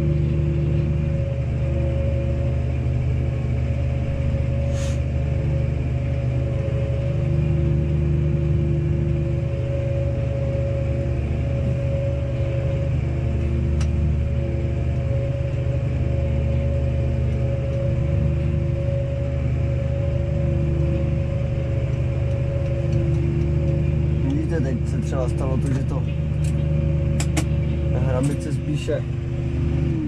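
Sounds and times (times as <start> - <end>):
steady whine: 0.0 - 30.0
tractor engine drone: 0.0 - 30.0.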